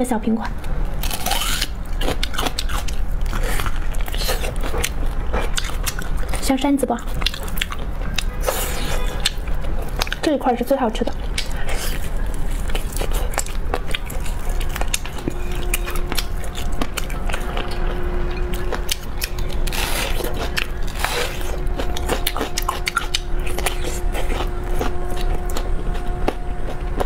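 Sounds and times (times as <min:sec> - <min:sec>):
faint steady hum: 0:00.0 - 0:27.0
chewing meat with wet clicks: 0:01.9 - 0:06.4, 0:07.1 - 0:10.3, 0:11.0 - 0:27.0.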